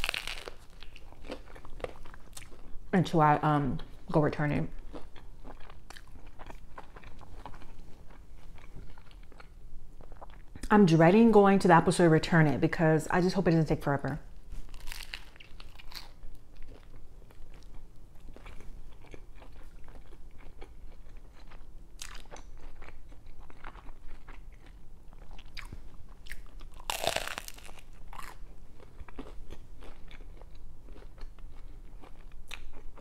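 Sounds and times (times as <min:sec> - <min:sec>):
crunching and chewing toasted sandwich: 0:00.0 - 0:02.9, 0:04.8 - 0:10.6, 0:14.4 - 0:33.0.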